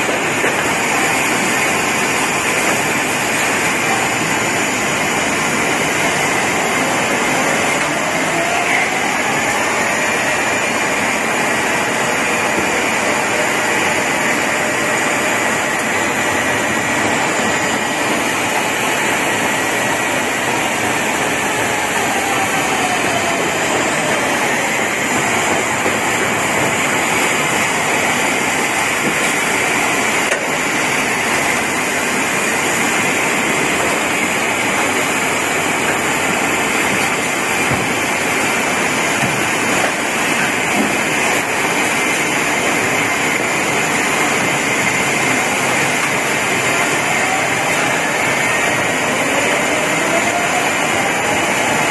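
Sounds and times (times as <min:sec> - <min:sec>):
machine whirring and hissing: 0:00.0 - 0:51.9.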